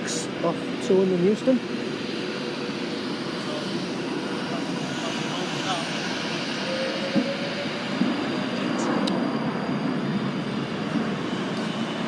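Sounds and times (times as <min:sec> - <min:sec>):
rail traffic rumble: 0:00.0 - 0:12.0.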